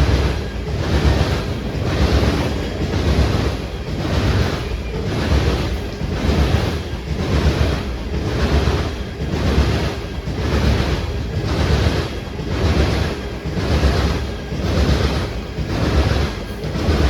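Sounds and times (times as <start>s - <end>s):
train rolling past: 0.0s - 17.0s.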